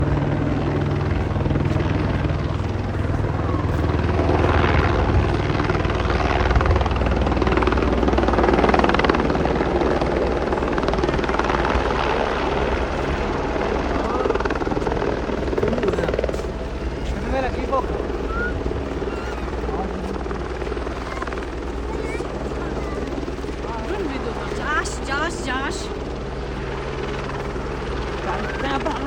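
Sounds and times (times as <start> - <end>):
helicopter rotor and engine: 0.0 - 29.0.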